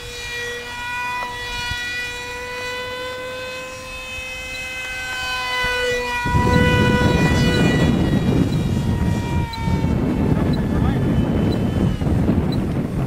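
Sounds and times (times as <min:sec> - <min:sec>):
model aircraft motor whining: 0:00.0 - 0:13.0.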